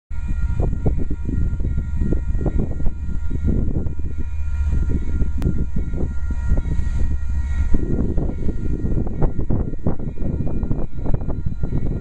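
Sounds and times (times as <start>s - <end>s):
diesel locomotive engine rumble: 0.1s - 12.0s
wind buffeting microphone: 0.1s - 12.0s.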